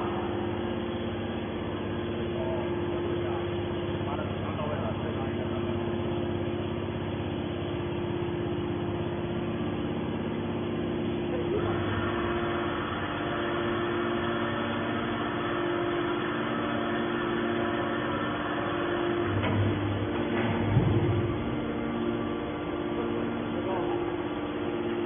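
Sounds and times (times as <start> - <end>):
hydraulic power unit humming: 0.0 - 25.0.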